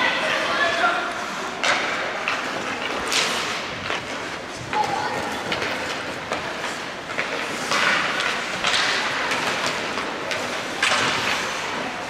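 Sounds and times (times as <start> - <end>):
hockey sticks and puck clacking: 0.2 - 12.0
skate blades scraping ice: 1.2 - 12.0.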